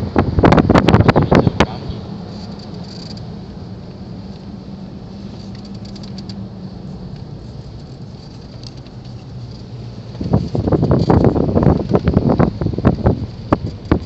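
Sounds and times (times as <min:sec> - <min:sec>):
engine and road hum: 0:00.0 - 0:14.0.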